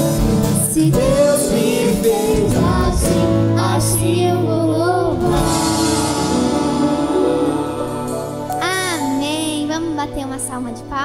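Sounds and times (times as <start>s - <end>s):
girls singing worship song: 0.0s - 9.2s
live band with guitar: 0.0s - 11.0s.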